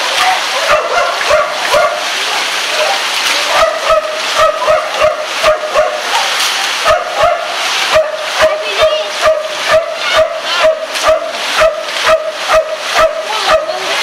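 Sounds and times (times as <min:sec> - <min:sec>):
steady rain falling: 0:00.0 - 0:14.0
dog barking: 0:00.6 - 0:13.9.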